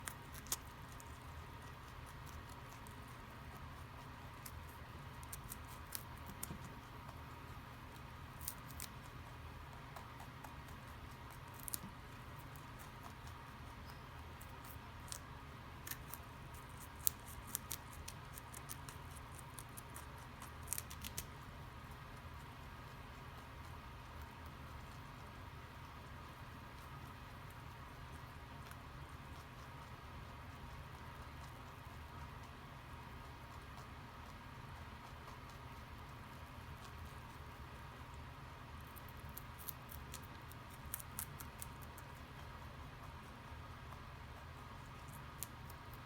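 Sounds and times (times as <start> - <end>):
low background hiss: 0.0 - 46.0
rabbit chewing crunchy leaf: 0.0 - 46.0.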